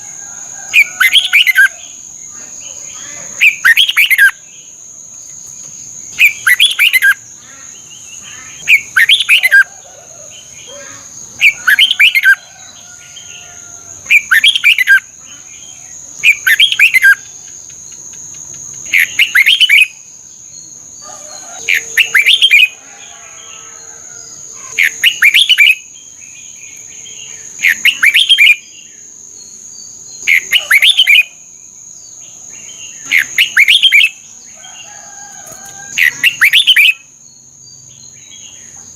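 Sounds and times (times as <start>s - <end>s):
bulbul singing: 0.8s - 4.7s, 5.4s - 22.8s, 24.6s - 31.4s, 32.0s - 34.8s, 36.0s - 38.8s.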